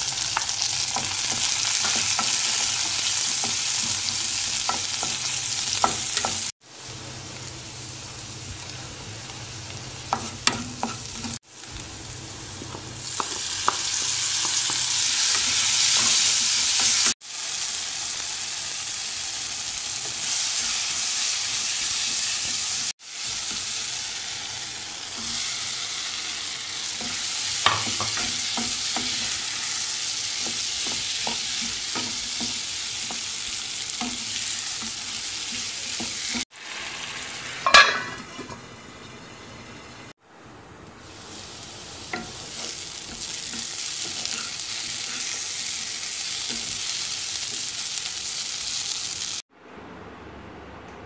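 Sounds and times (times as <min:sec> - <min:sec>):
potatoes sizzling in oil: 0:00.0 - 0:40.1, 0:41.0 - 0:49.4.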